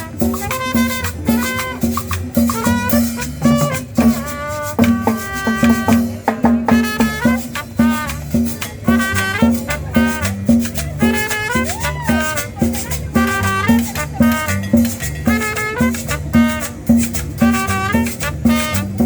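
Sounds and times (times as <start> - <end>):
latin dance music: 0.0 - 19.0
shaker rhythm: 0.0 - 19.0.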